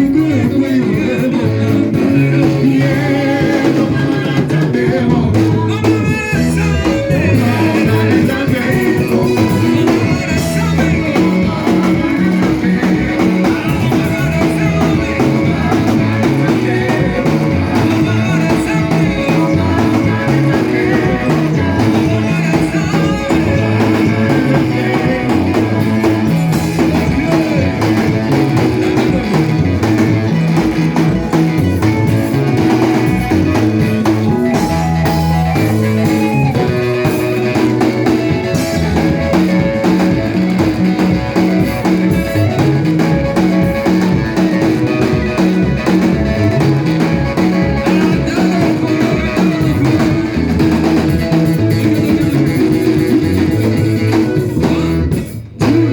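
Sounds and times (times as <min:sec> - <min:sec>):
worship band music: 0:00.0 - 0:55.9.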